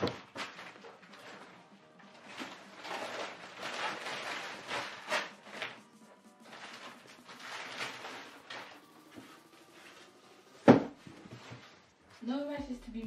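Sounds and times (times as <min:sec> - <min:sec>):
wrapping paper rustling: 0:00.0 - 0:13.0.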